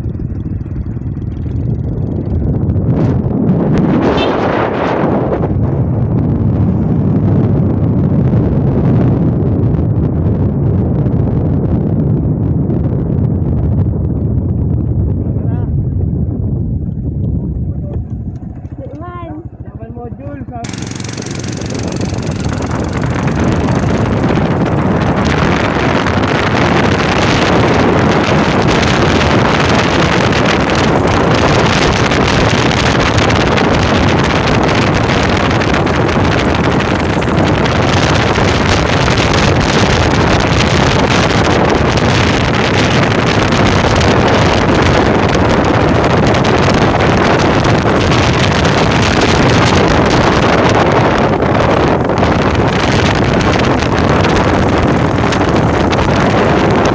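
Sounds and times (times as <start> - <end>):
wind on microphone: 0.0 - 56.9.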